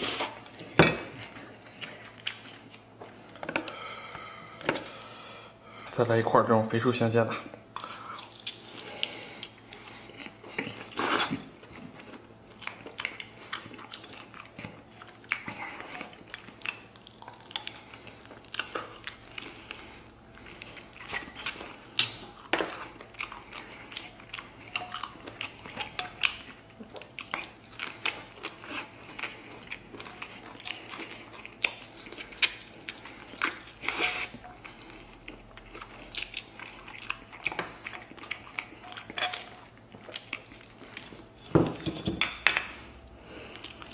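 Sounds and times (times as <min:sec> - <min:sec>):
person chewing food: 0:00.0 - 0:05.9, 0:07.4 - 0:43.9.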